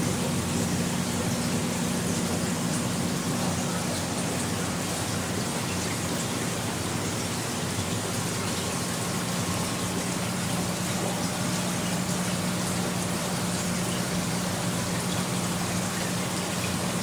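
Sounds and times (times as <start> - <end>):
aquarium water rushing hiss: 0.0 - 17.0
low constant hum: 0.0 - 17.0.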